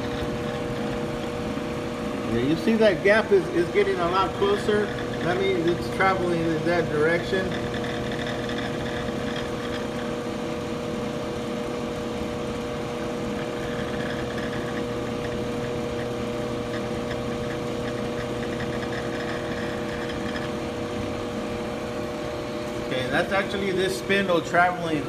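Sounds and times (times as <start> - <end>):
constant high whine: 0.0 - 25.0
lathe motor humming: 0.0 - 25.0.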